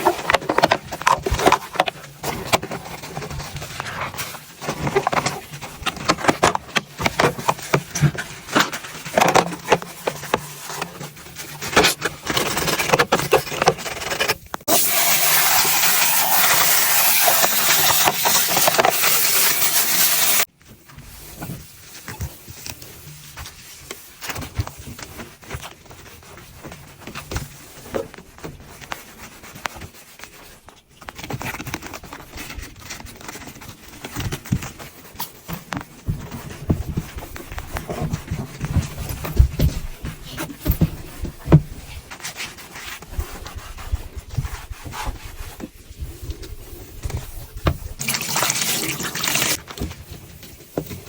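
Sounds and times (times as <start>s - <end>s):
rubbing and scraping: 0.0s - 51.0s.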